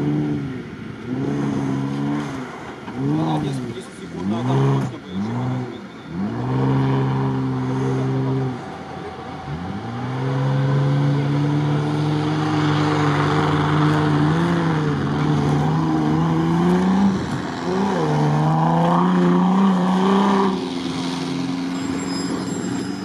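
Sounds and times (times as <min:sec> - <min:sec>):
car engine pulling hard: 0:00.0 - 0:23.0.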